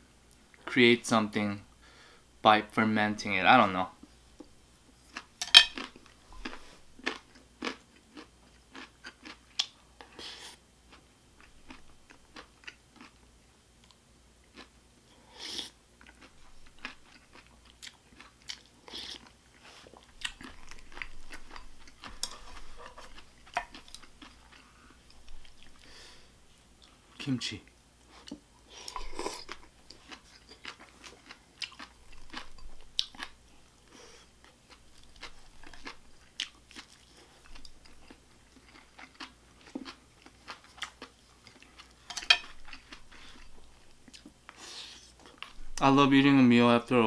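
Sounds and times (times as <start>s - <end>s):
person chewing food: 4.4s - 27.2s, 28.0s - 45.8s.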